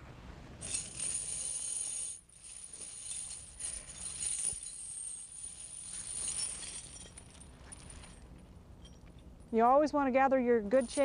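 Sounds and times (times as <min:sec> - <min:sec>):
tire chains jangling: 0:00.6 - 0:09.6, 0:10.6 - 0:11.0.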